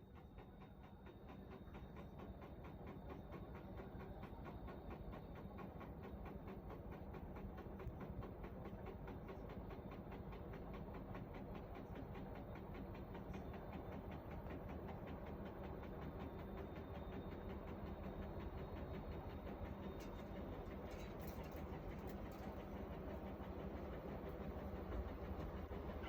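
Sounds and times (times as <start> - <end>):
washing machine knocking and rumbling: 0.0 - 26.0.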